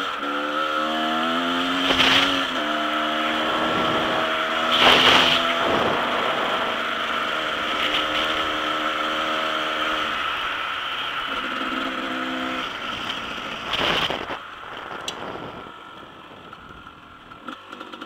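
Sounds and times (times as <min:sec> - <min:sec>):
dirt bike engine running: 0:00.0 - 0:18.0
loud rush of noise: 0:00.7 - 0:17.8.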